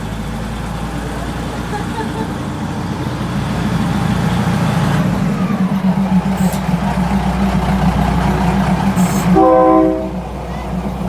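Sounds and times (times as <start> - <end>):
diesel train engine rumbling: 0.0 - 11.0.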